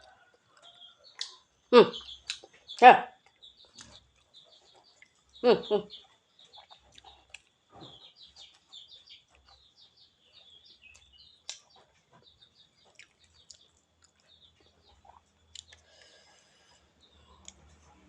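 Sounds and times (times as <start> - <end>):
birds chirping rapidly: 0.0 - 17.6.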